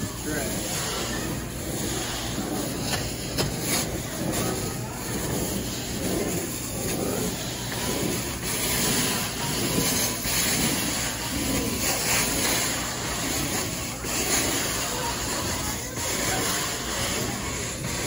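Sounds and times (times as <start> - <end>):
vacuum wand hissing on carpet: 0.2 - 18.0.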